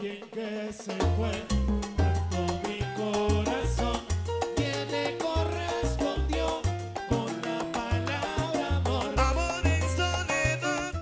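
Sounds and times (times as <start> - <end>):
hand drums and timbales: 0.0 - 11.0
salsa band playing: 0.0 - 11.0
bass line: 1.0 - 11.0.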